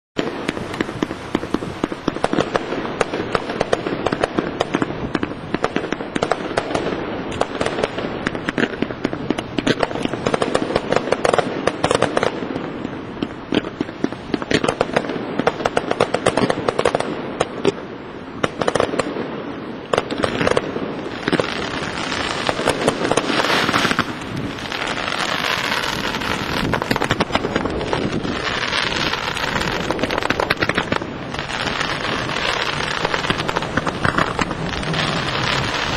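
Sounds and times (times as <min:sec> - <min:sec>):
fireworks bangs and crackling: 0:00.2 - 0:35.9.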